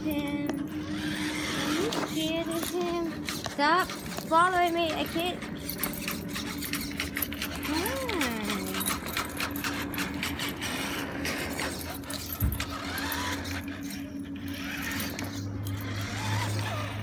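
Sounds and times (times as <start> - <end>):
toy truck motor whirring: 0.0 - 17.0.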